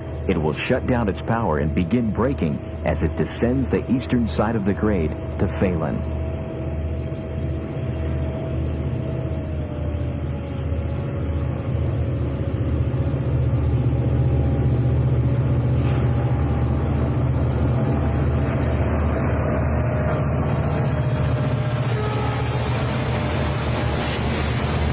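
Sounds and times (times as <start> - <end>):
locomotive engine drone: 0.0 - 24.9
thin steady whine: 0.0 - 24.9.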